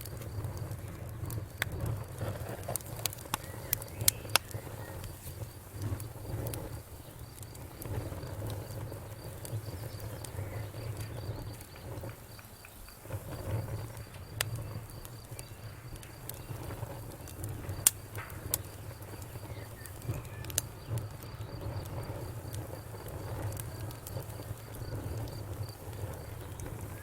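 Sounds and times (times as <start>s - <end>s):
low rumble of burning: 0.0s - 27.0s
wood fire crackling and popping: 0.0s - 27.0s.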